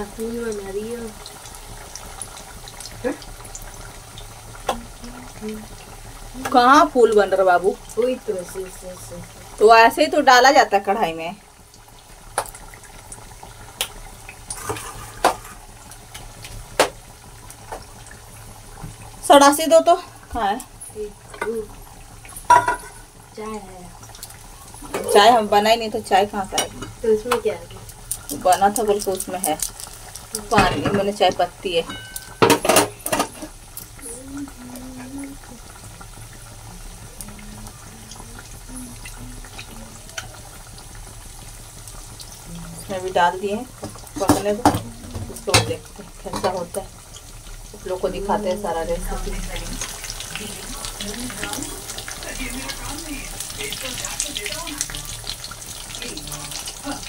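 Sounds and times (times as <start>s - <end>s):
dough sizzling in hot oil: 0.0s - 57.0s
oil popping and crackling: 0.0s - 57.0s.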